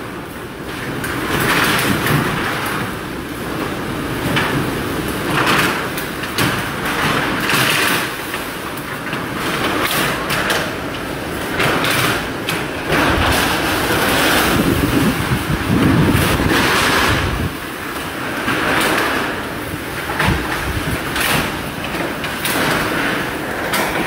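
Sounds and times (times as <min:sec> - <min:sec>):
strong wind gusting against building: 0:00.0 - 0:24.0
metal roof knocking and rattling: 0:00.6 - 0:24.0.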